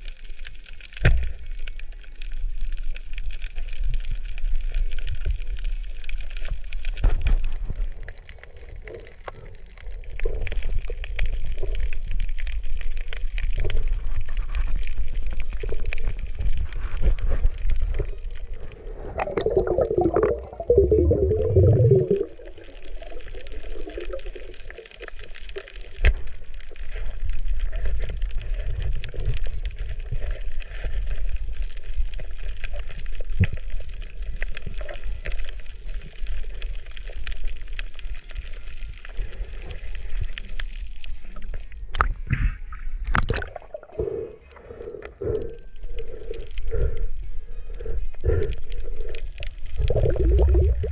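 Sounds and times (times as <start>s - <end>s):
underwater rumble and hiss: 0.0s - 50.9s.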